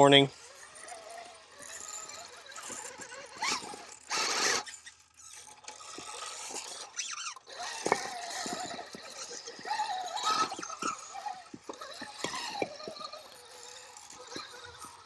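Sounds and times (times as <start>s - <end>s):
electric drivetrain whining: 0.0s - 15.0s
tyres scrabbling on rock: 0.4s - 15.0s.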